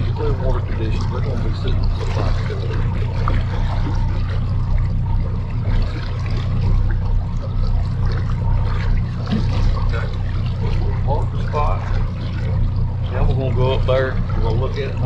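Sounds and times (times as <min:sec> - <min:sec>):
boat motor idling: 0:00.0 - 0:15.0
water noise: 0:00.0 - 0:15.0.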